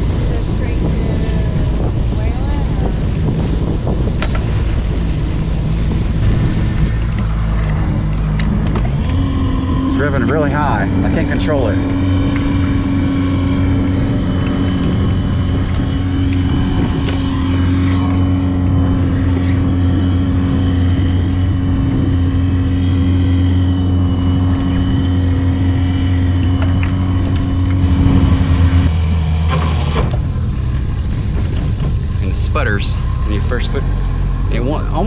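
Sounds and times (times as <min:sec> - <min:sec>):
outboard motor running at high revs: 0:00.0 - 0:35.0.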